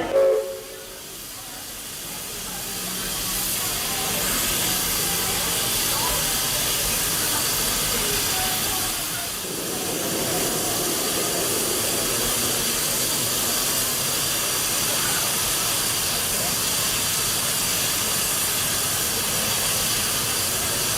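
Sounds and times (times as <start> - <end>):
locomotive steam hissing: 0.0 - 20.9.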